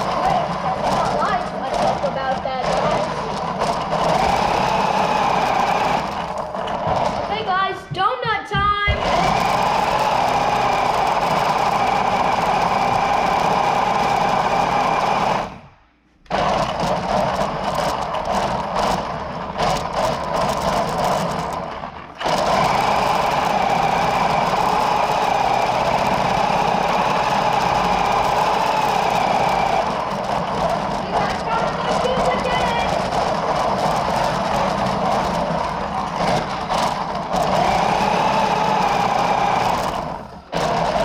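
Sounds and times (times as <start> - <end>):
toy car electric motor whining: 0.0 - 7.5, 8.9 - 15.6, 16.3 - 41.0.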